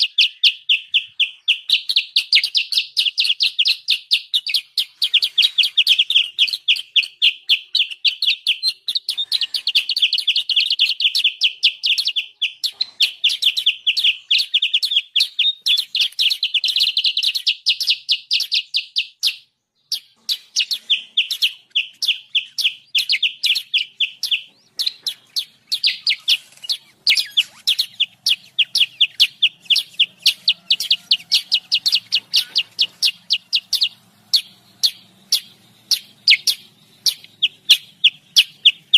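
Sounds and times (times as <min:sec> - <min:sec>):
songbird high chirping: 0:00.0 - 0:38.9.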